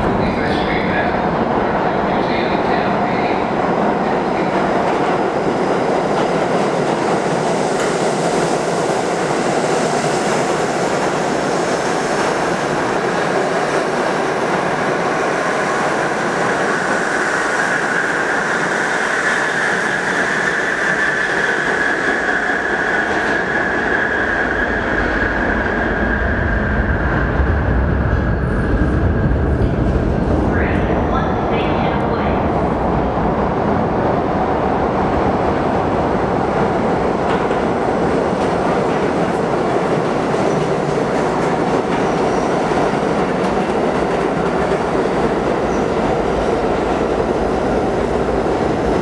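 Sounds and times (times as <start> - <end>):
subway train wheels rumbling: 0.0 - 49.0.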